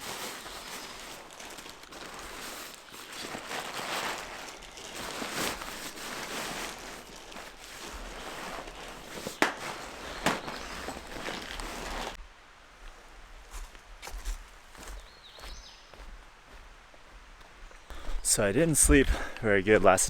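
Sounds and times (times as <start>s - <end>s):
footsteps on forest trail: 0.0s - 12.2s, 12.8s - 20.0s.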